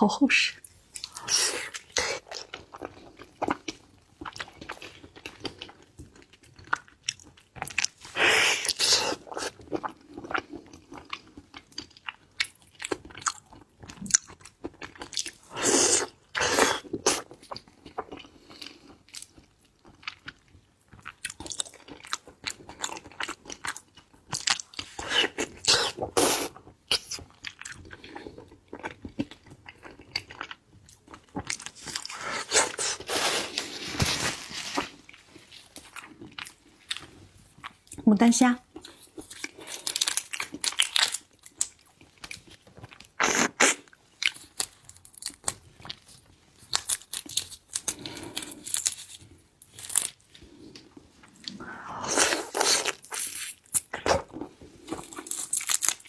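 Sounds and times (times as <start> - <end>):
wet chewing and crunching: 0.6 - 56.0.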